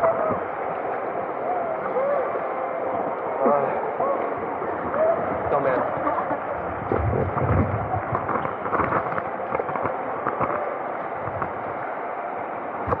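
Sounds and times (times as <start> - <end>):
people wading and splashing: 0.0 - 13.0
rushing water: 0.0 - 13.0.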